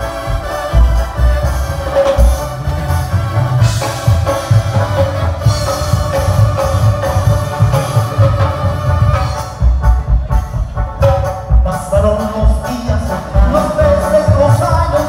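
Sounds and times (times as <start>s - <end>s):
drum kit: 0.0s - 15.0s
heavy pulsing bass line: 0.0s - 15.0s
live band amplified music: 0.0s - 15.0s.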